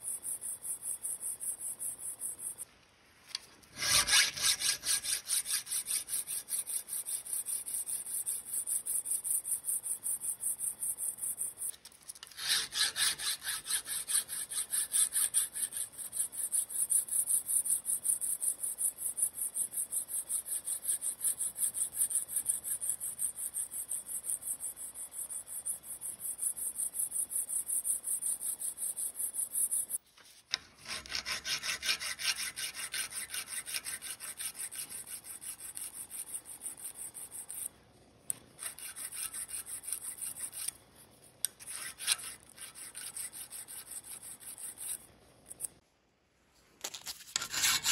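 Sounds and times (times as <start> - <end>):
file rasping on steel: 3.7 - 37.7, 38.3 - 40.8, 41.4 - 45.7, 47.3 - 47.9.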